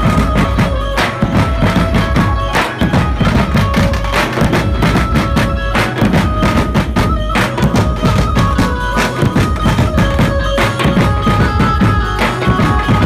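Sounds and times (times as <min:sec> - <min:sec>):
band playing fast tune: 0:00.0 - 0:13.0
held melody line: 0:00.0 - 0:13.0.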